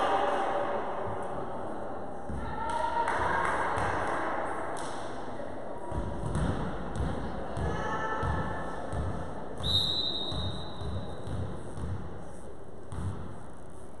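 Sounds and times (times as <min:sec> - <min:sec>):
volleyball thuds in hall: 0:02.2 - 0:13.4.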